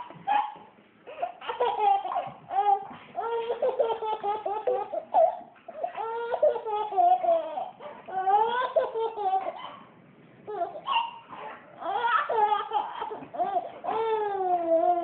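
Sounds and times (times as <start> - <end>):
baby laughing and squealing: 0.0 - 9.9, 10.5 - 15.0.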